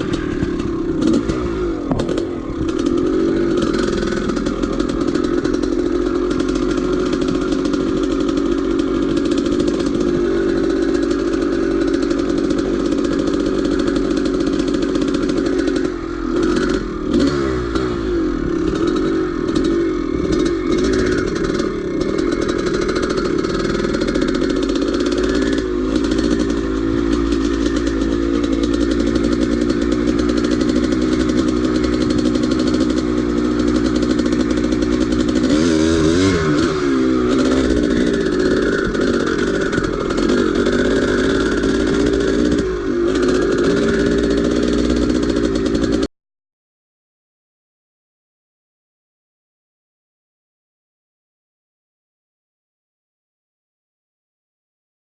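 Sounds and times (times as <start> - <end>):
dirt bike engine under load: 0.0 - 46.1.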